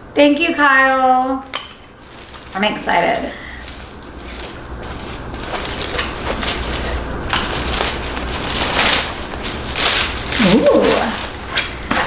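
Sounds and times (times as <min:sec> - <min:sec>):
wrapping paper tearing and crinkling: 0:02.0 - 0:12.0.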